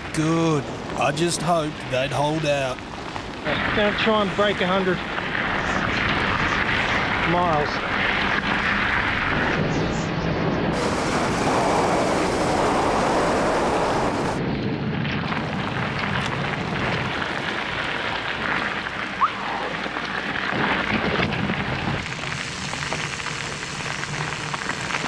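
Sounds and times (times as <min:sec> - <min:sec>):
wind buffeting microphone: 0:00.0 - 0:19.2, 0:20.2 - 0:22.4.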